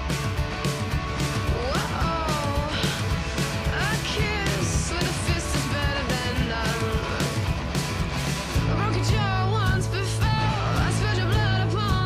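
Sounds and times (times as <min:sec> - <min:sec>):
guitar song: 0:00.0 - 0:12.0.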